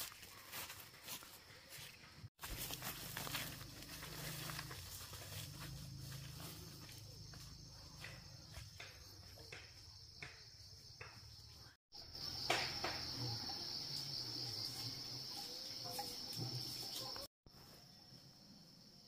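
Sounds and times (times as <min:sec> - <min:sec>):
crickets trilling: 0:00.1 - 0:19.0.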